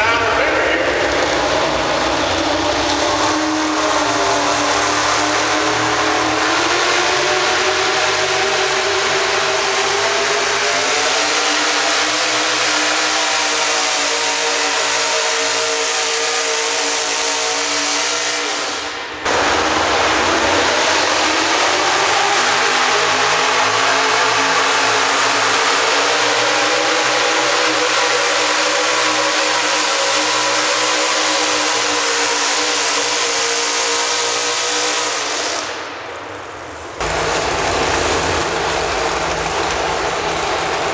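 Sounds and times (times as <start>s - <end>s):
tractor engine running at high revs: 0.0s - 40.9s.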